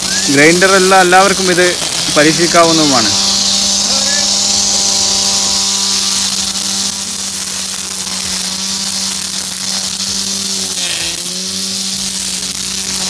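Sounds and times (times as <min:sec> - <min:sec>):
angle grinder running with high hiss: 0:00.0 - 0:13.0.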